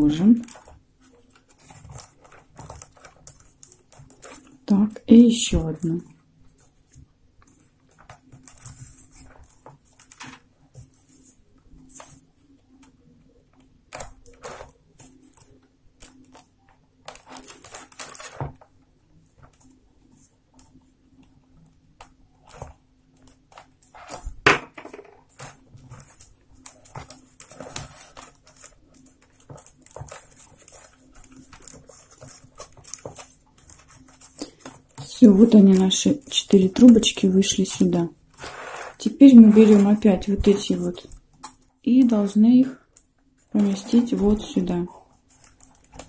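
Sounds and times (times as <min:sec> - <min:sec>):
paper tubes rustling and scraping: 0:00.0 - 0:13.0, 0:14.0 - 0:21.0, 0:22.4 - 0:46.0.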